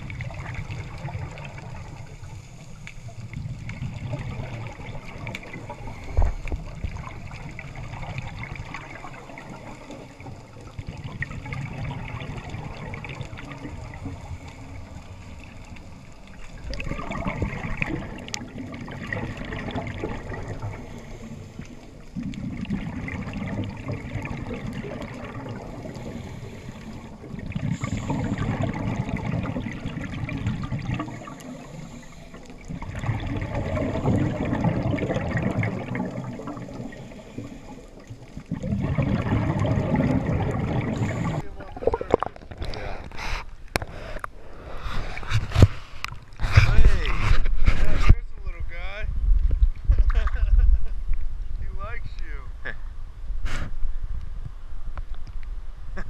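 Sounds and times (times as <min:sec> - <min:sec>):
underwater exhaled bubbles gurgling: 0:00.0 - 0:48.1
low underwater noise: 0:00.0 - 0:56.0.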